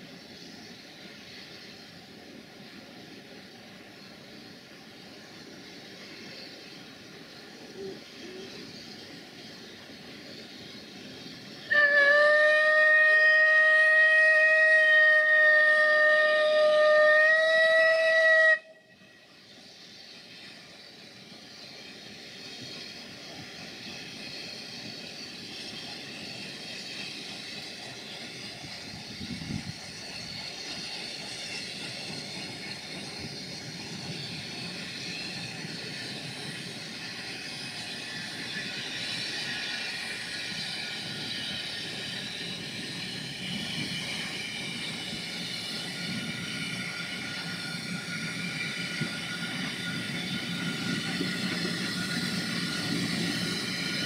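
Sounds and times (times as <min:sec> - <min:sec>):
steam locomotive approaching: 0:00.0 - 0:54.0.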